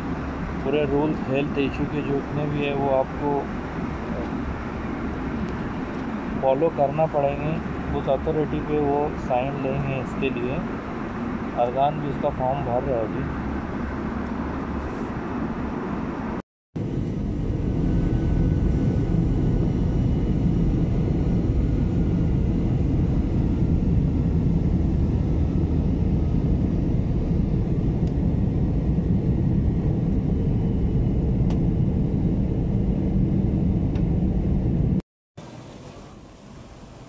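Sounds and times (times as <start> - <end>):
jet engines rumbling in cabin: 0.0 - 37.0.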